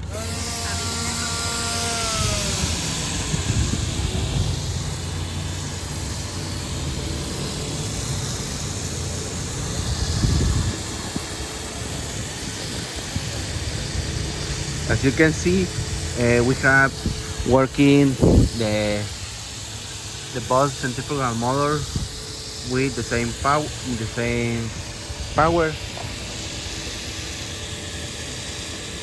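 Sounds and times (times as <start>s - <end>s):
spray hiss: 0.0s - 29.0s
spray motors whirring: 0.0s - 29.0s.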